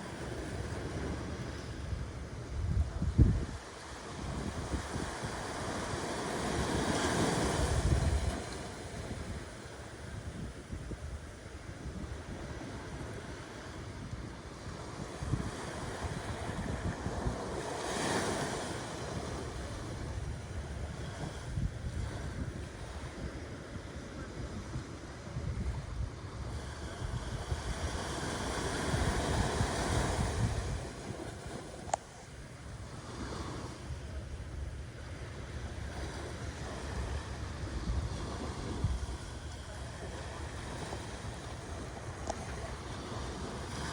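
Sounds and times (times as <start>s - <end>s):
ocean waves breaking: 0.0s - 43.9s
wind rumble on microphone: 0.0s - 43.9s.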